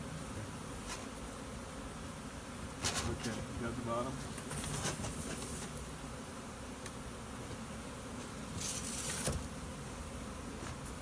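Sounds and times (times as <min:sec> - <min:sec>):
bee swarm buzzing: 0:00.0 - 0:11.0
rustle: 0:00.0 - 0:11.0.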